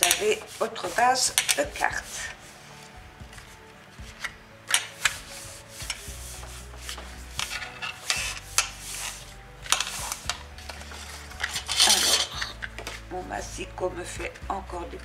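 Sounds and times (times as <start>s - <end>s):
blade scraping paper: 0.0s - 13.1s.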